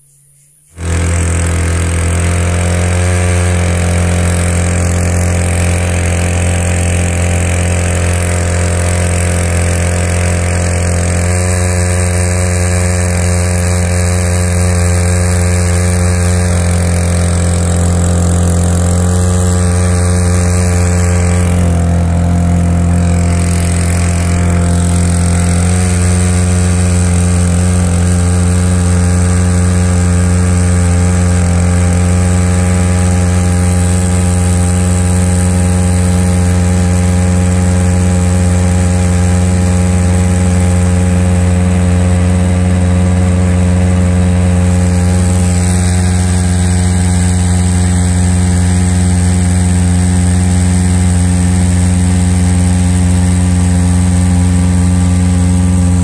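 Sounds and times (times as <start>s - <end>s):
outboard motor drone: 0.6s - 56.0s.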